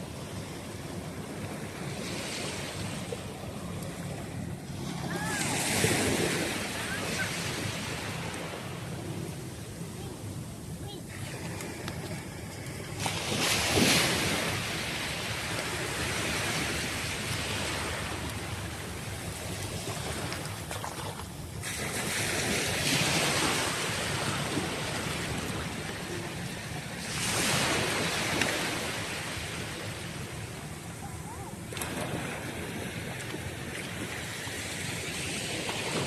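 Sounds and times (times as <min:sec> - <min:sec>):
sea surf breaking: 0:00.0 - 0:36.0.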